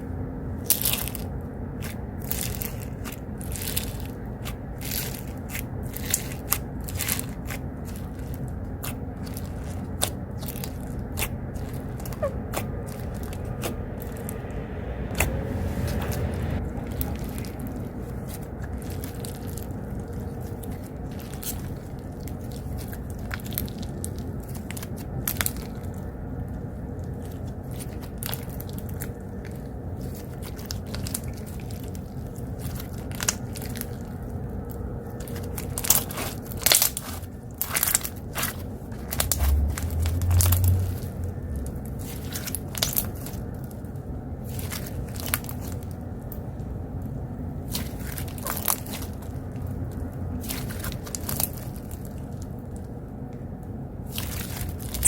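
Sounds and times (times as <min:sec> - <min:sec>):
low background rumble: 0:00.0 - 0:55.0.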